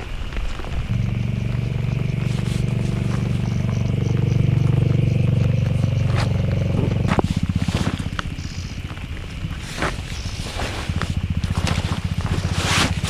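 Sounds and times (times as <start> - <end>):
engine running and idling: 0.0 - 13.0.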